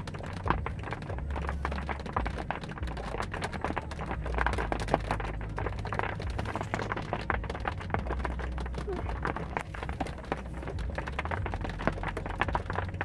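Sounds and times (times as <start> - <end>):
low rumble: 0.0 - 13.0
raindrops tapping on a car: 0.0 - 13.0.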